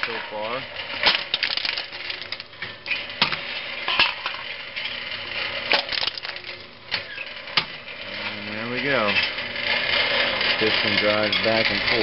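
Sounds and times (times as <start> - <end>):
can crusher crushing cans: 0.0 - 12.0.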